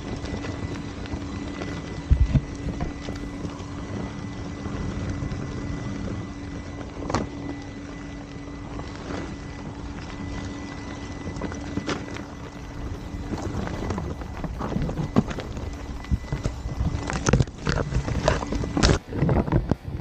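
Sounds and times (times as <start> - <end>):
steady low hum: 0.0 - 20.0
tyres on rocky dirt trail: 0.0 - 20.0
wind on microphone: 0.0 - 20.0.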